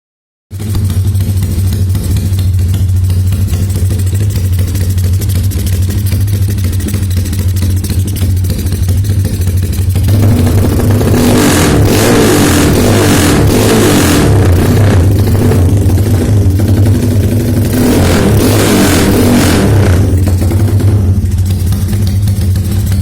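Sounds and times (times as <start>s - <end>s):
motorcycle engine idling and revving: 0.5s - 23.0s.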